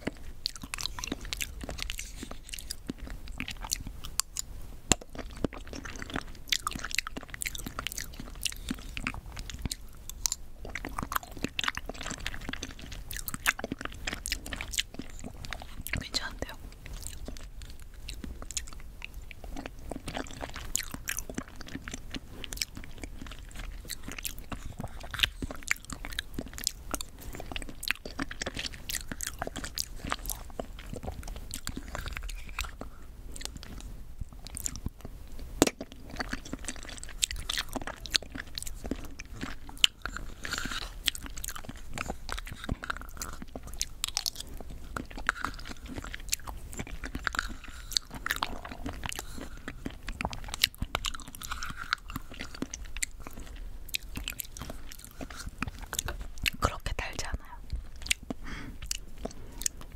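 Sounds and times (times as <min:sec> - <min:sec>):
wet chewing mouth clicks: 0:00.0 - 0:59.9.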